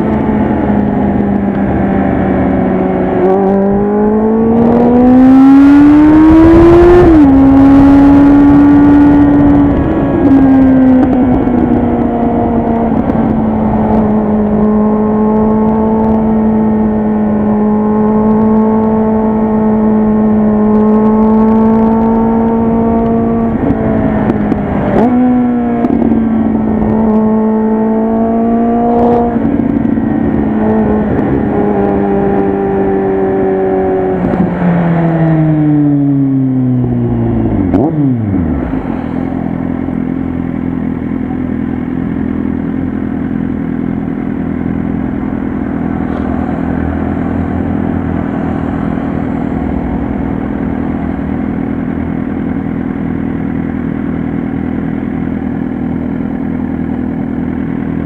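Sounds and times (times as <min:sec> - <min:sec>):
motorcycle engine with loud exhaust: 0:00.0 - 0:58.0.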